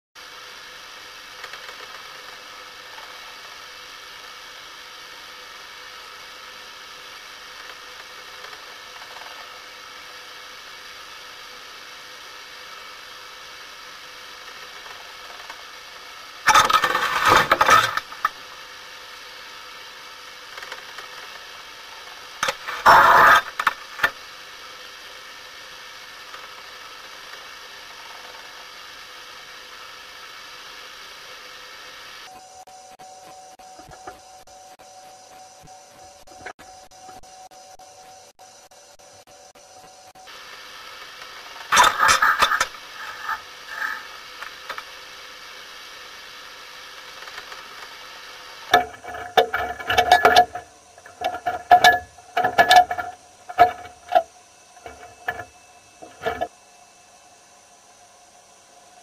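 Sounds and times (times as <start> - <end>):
faint hum: 0.2 - 59.0.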